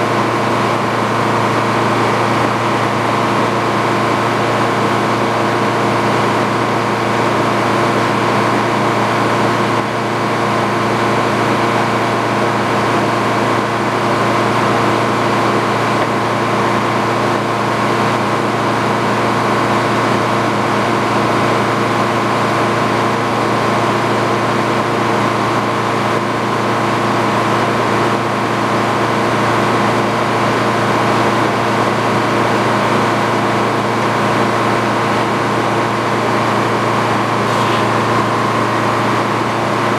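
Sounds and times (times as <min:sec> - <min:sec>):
sawmill engine running steadily: 0:00.0 - 0:39.9.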